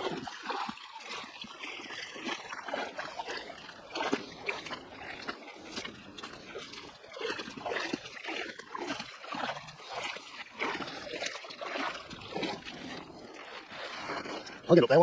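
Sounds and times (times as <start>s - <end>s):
feet wading through water: 0.0s - 15.0s.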